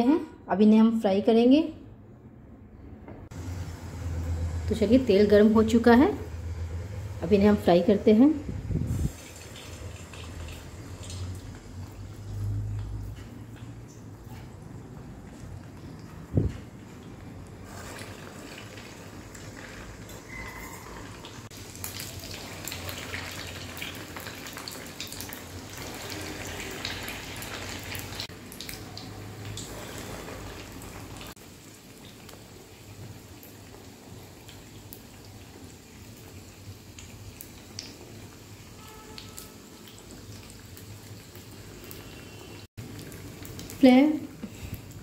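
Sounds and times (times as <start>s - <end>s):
food sizzling in hot oil: 3.3s - 13.1s, 17.5s - 45.0s.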